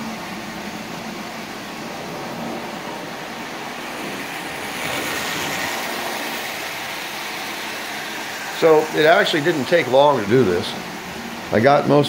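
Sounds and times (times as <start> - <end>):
toy train rolling on metal track: 0.0 - 12.0.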